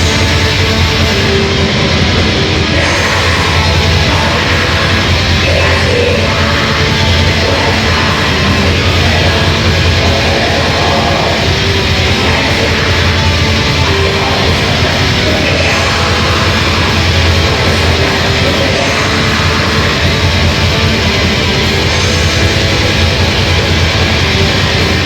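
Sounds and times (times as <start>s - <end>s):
heavy metal band playing live: 0.0s - 25.0s.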